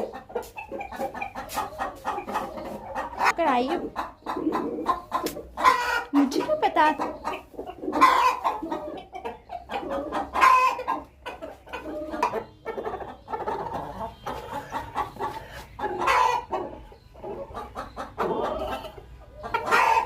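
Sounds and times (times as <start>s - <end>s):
hen clucking and calling: 0.0s - 20.0s.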